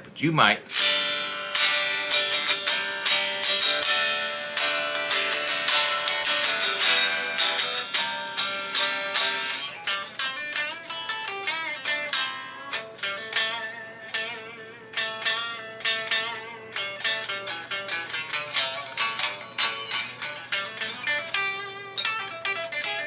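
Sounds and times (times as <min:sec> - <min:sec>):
unplugged electric guitar notes: 0:00.7 - 0:23.0.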